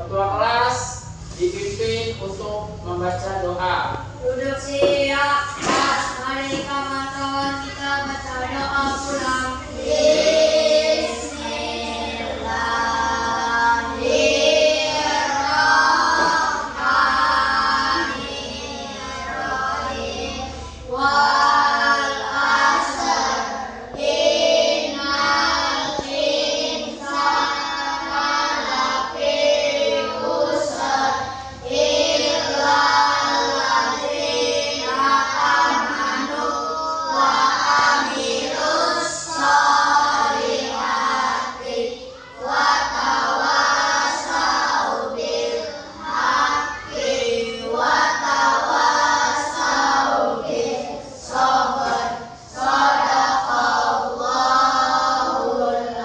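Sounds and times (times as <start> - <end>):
children singing in unison: 5.6 - 56.0.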